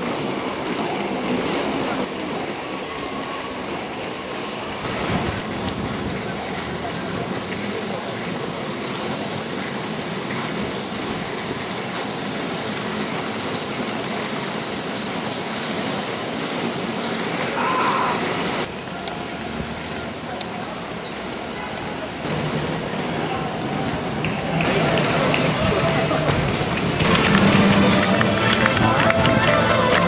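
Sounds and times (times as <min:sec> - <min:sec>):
rain hissing on a wet road: 0:00.0 - 0:30.0.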